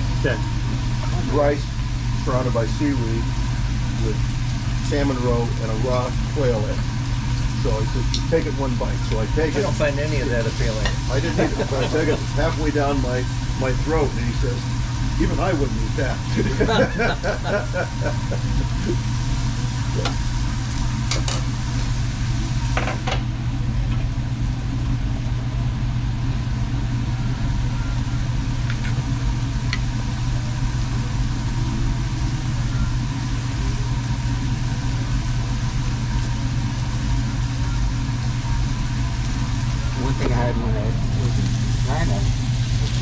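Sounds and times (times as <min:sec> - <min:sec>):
low mechanical hum with hiss: 0:00.0 - 0:43.0.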